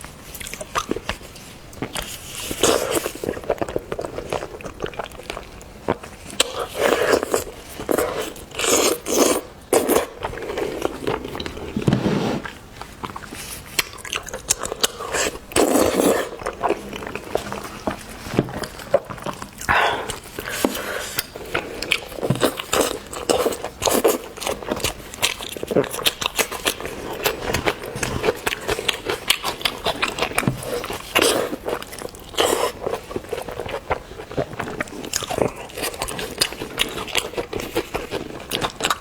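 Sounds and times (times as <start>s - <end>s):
chewing and crunching seafood: 0.0s - 11.8s, 12.5s - 39.0s.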